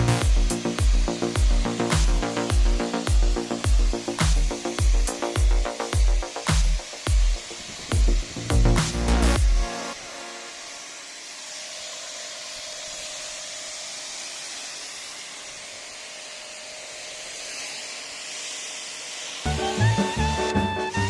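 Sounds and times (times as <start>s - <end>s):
pressure washer spraying: 0.0s - 21.0s.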